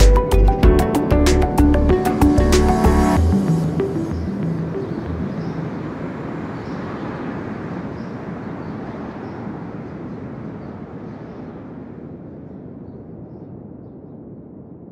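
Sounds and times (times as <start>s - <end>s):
steady rushing noise: 0.0s - 14.9s.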